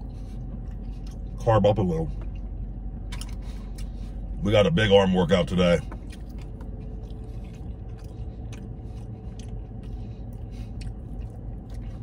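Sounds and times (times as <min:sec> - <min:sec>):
man chewing crunchy food: 0:00.0 - 0:01.4, 0:02.1 - 0:04.4, 0:05.5 - 0:12.0
low hum: 0:00.0 - 0:12.0.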